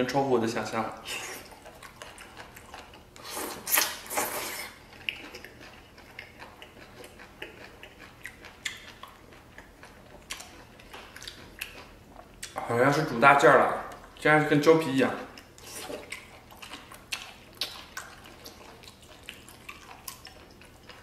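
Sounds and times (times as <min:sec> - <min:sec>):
person chewing: 0:01.0 - 0:12.7, 0:15.3 - 0:21.0.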